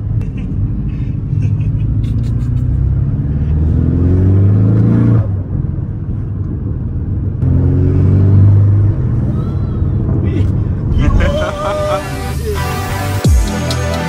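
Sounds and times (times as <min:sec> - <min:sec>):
car engine accelerating: 0:00.0 - 0:14.0
road and tyre noise: 0:00.0 - 0:14.0.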